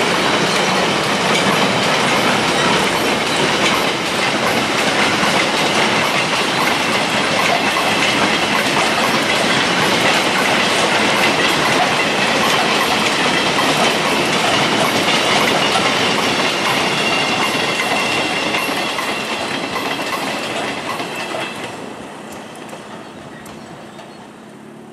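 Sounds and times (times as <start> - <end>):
train wheels clattering on rails: 0.0 - 24.9.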